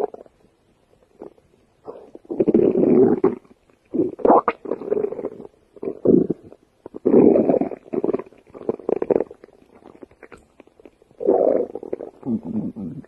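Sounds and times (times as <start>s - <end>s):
stomach growling: 1.2s - 13.0s.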